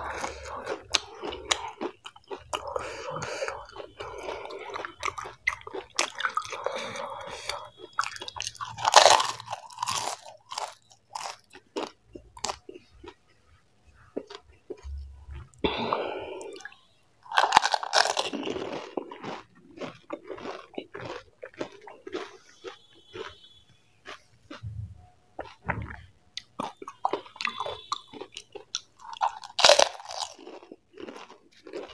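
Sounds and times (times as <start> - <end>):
crunching fried shells: 0.0 - 13.3, 16.5 - 24.7, 25.4 - 31.9
moist chewing with crackles: 0.0 - 13.3, 16.4 - 24.7, 25.4 - 31.9.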